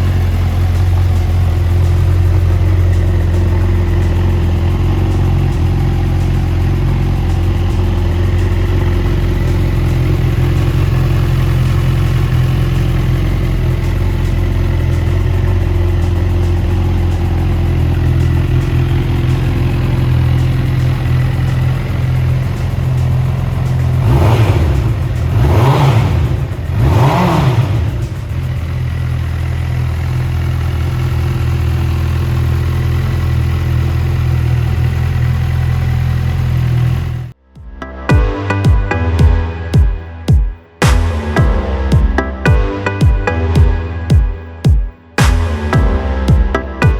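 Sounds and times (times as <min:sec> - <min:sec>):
motorcycle engine idling and revving: 0:00.0 - 0:37.4, 0:38.1 - 0:46.9.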